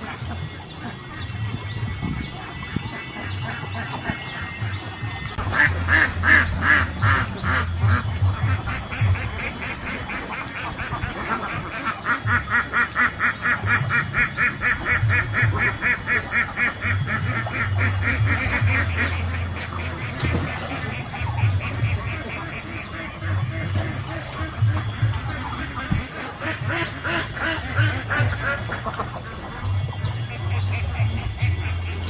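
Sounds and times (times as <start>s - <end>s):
ducks quacking: 0.0s - 32.0s.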